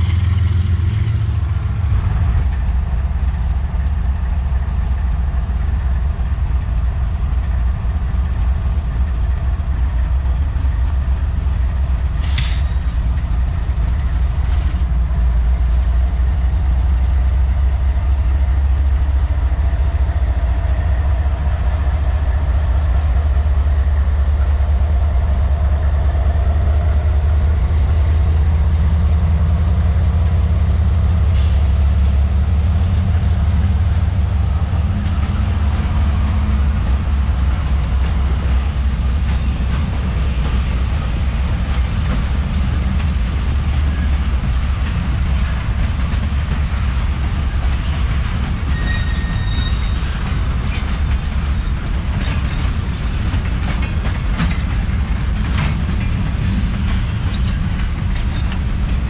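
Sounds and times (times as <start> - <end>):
diesel locomotive rumbling: 0.0 - 59.0
rail clicks: 0.0 - 59.0.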